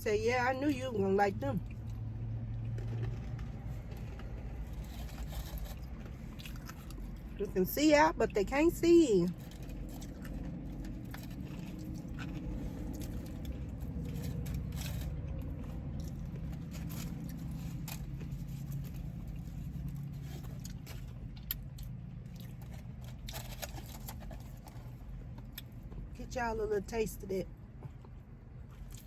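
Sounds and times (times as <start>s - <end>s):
eating crunches and rustles: 1.6s - 7.4s, 9.2s - 26.1s, 27.7s - 29.0s.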